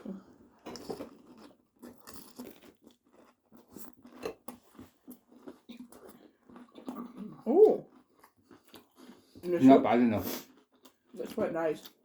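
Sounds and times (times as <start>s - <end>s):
mouth chewing crunchy food: 0.0s - 12.0s.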